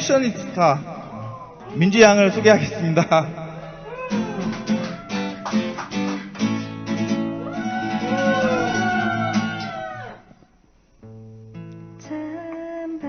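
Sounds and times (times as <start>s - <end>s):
acoustic guitar playing chords: 0.0s - 12.8s.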